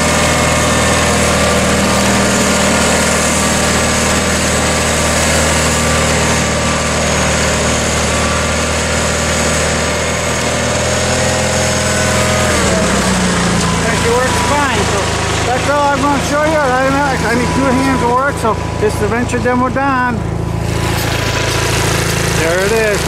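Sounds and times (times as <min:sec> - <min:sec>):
garden tractor engine running: 0:00.0 - 0:23.0.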